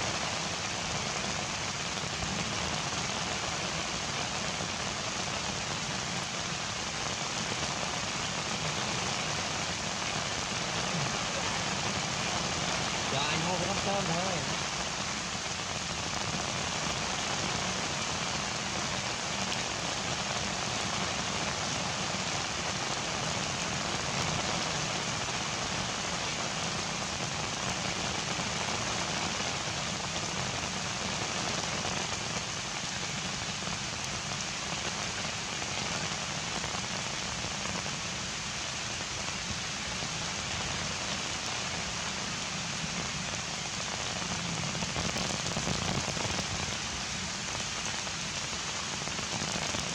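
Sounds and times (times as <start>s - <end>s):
heavy rain pattering: 0.0s - 49.9s.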